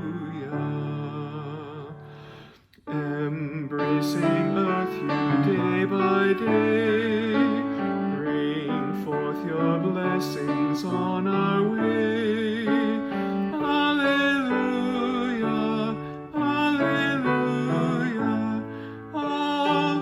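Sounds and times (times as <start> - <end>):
piano accompaniment: 0.0 - 20.0.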